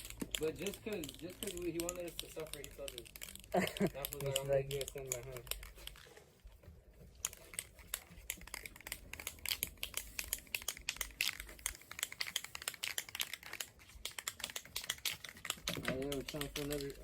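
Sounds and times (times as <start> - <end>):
spray can rattling when shaken: 0.0 - 5.9, 7.3 - 17.0.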